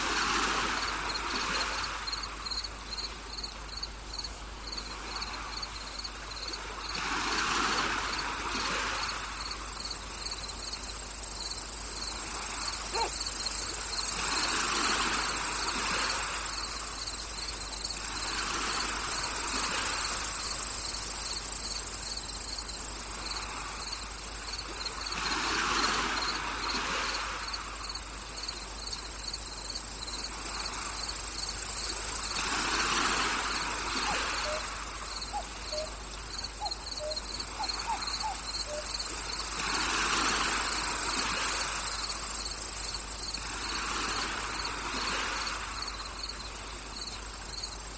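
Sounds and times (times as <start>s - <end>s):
crickets chirping: 0.0s - 47.9s
insects trilling: 0.0s - 47.9s
soft rush of noise: 0.0s - 47.9s.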